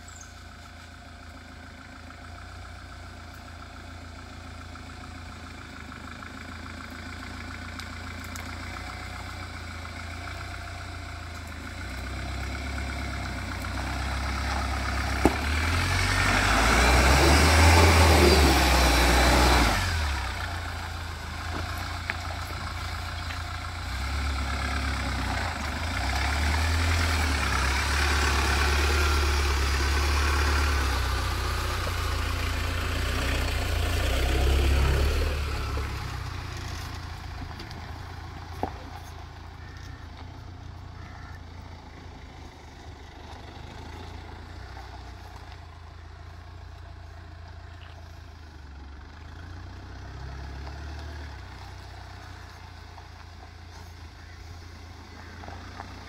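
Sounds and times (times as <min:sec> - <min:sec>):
diesel engine rumbling: 0:00.0 - 0:56.0
rush of engine and road noise: 0:00.0 - 0:56.0.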